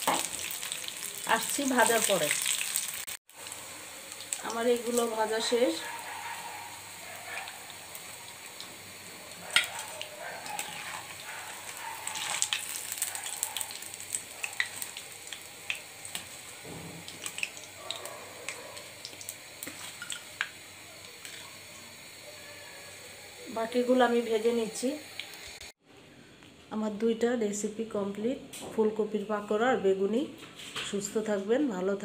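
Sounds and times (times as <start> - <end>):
hot oil sizzling and popping: 0.0 - 25.8.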